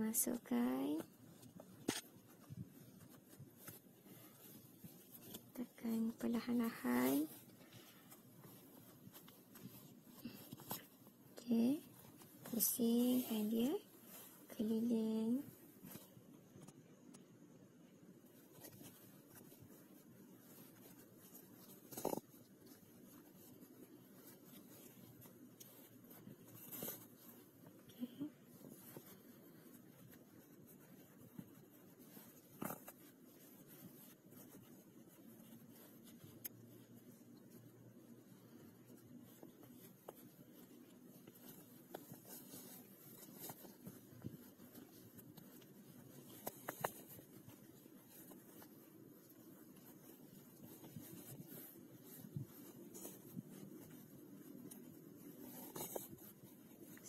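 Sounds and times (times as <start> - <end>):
fabric rustling: 0.0 - 57.0.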